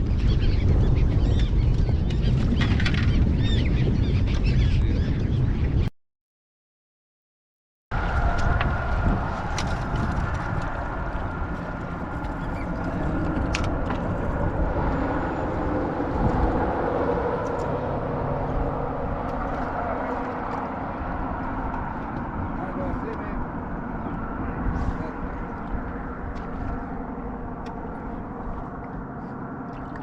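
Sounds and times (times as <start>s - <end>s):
wind buffeting microphone: 0.0s - 5.9s, 7.9s - 30.0s.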